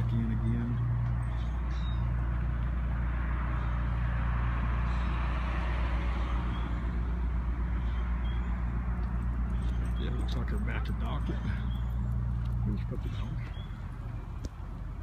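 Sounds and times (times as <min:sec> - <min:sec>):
steady low traffic rumble: 0:00.0 - 0:15.0
passing car tyre noise: 0:00.9 - 0:15.0.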